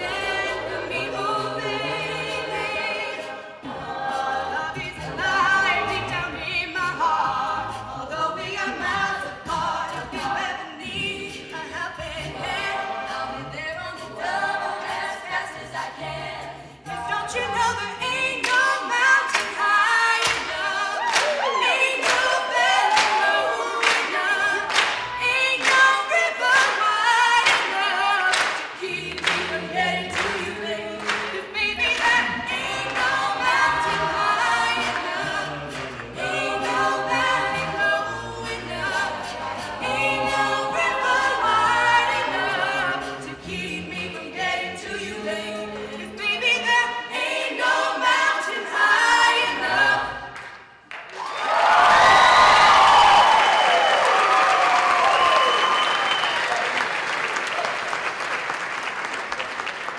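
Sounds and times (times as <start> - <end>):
a cappella group singing: 0.0 - 56.4.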